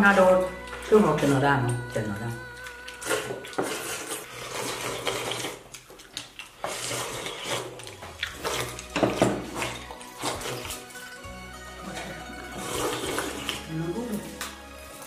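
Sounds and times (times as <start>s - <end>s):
people slurping porridge: 0.0s - 15.0s.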